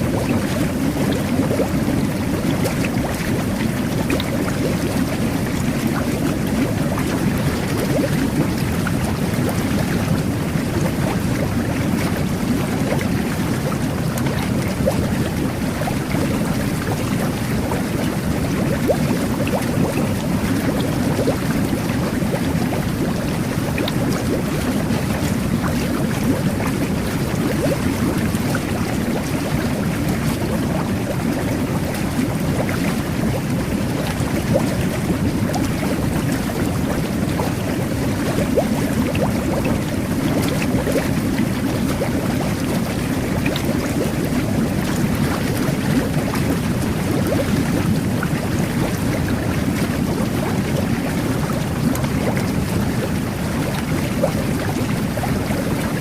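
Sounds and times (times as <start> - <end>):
water jets churning and bubbling: 0.0 - 56.0.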